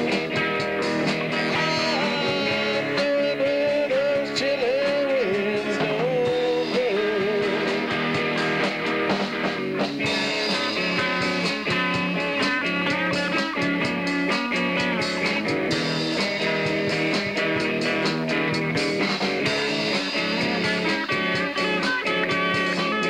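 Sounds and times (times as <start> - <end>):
bending lead guitar line: 0.0 - 23.0
rock band playing: 0.0 - 23.0.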